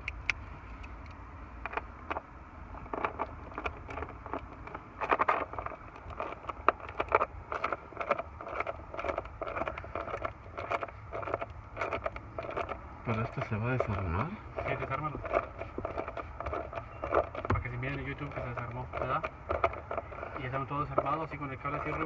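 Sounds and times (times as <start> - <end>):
low steady hum: 0.0 - 22.0
wire clicks rustles and scrapes: 1.6 - 22.0.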